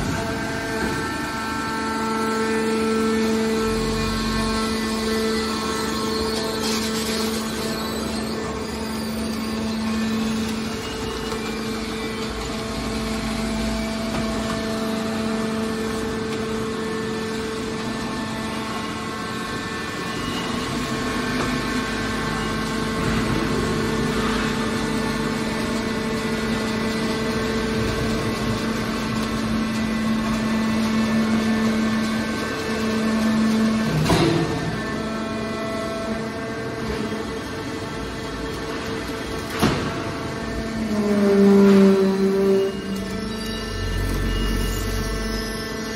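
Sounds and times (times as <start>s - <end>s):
hydraulic machine hum: 0.0s - 45.9s.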